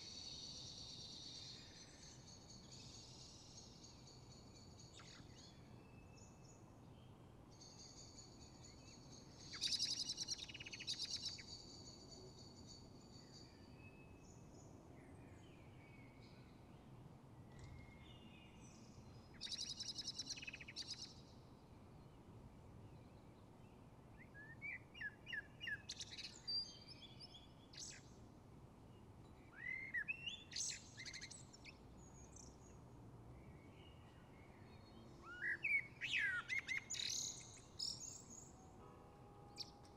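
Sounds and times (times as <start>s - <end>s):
songbirds singing: 0.0s - 28.2s, 28.9s - 38.6s.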